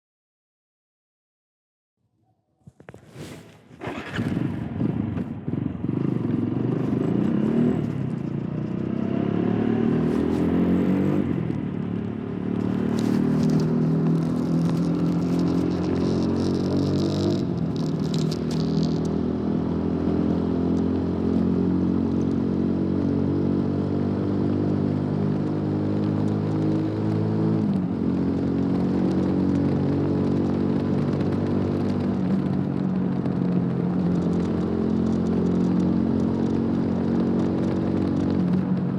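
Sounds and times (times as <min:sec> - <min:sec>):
motorcycle engine shifting gears: 0:02.7 - 0:38.9.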